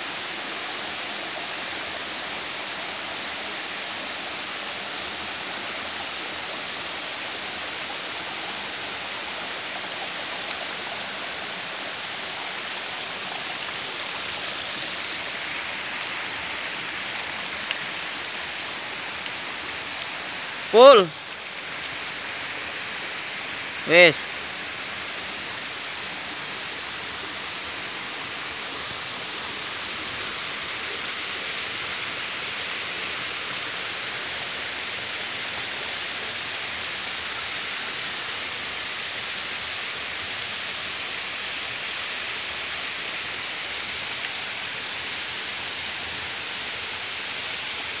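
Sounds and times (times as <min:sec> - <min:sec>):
waterfall and stream running: 0:00.0 - 0:48.0.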